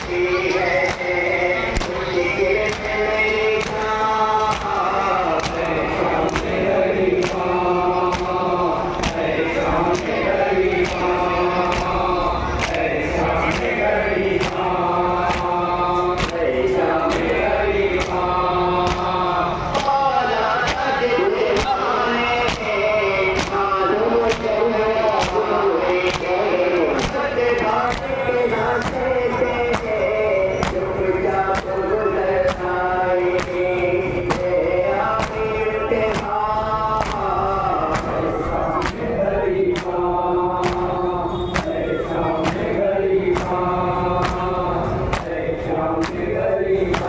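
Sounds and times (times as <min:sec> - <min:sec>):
men chanting lament through loudspeakers: 0:00.0 - 0:47.0
reciter on amplified microphone: 0:00.0 - 0:47.0
rhythmic chest-beat slaps: 0:00.0 - 0:47.0.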